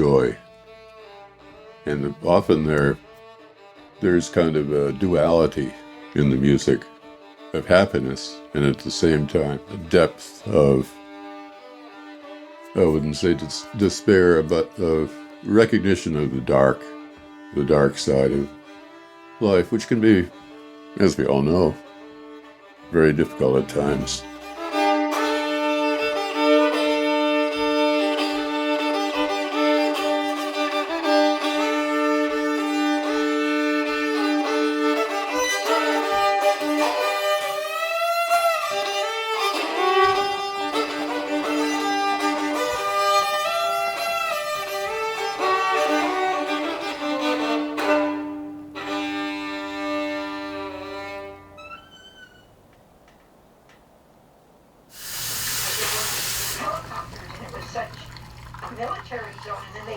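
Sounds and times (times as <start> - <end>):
fiddle playing over a drone: 0.0 - 51.8.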